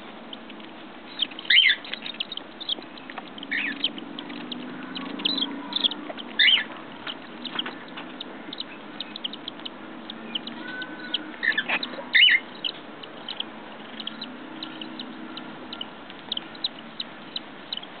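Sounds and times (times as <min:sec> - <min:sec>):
chicks peeping and chirping: 0:00.0 - 0:18.0.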